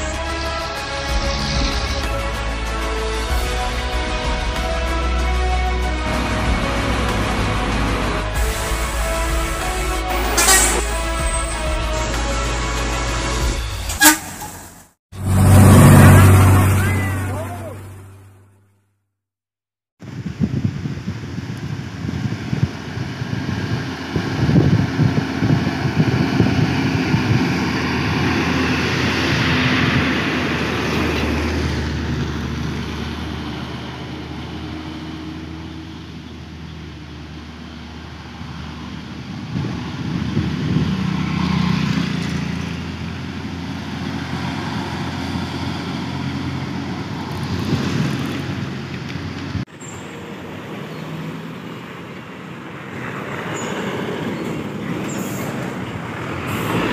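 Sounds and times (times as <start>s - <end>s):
truck diesel engine passing: 0.0s - 18.6s, 21.4s - 56.9s
following traffic engines: 0.0s - 18.7s, 20.0s - 56.9s.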